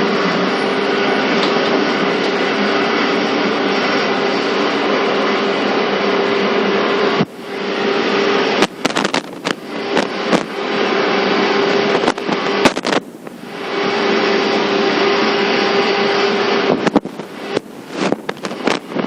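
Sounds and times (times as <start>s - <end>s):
train cabin hum: 0.0s - 19.0s.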